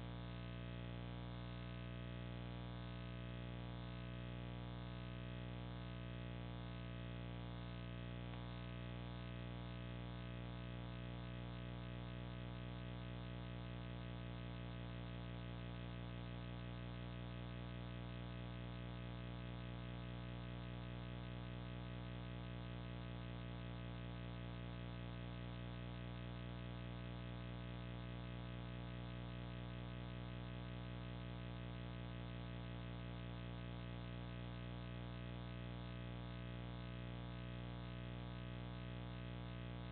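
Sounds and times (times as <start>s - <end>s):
electrical hum and buzz: 0.0s - 39.9s.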